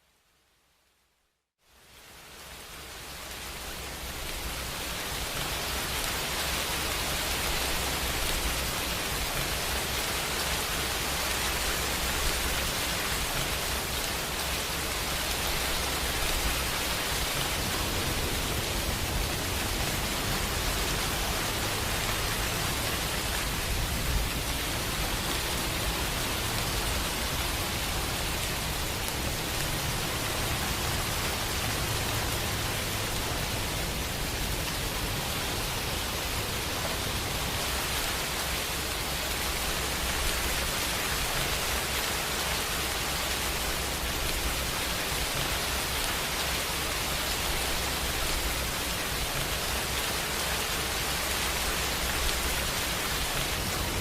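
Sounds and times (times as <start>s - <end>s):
heavy rainfall: 1.6s - 54.0s.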